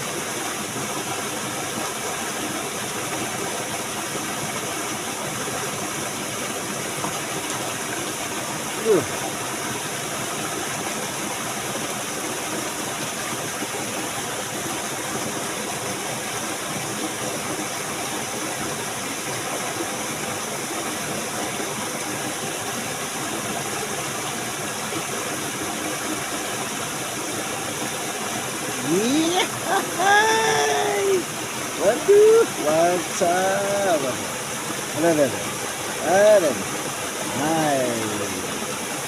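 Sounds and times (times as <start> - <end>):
flowing water rushing: 0.0 - 39.0.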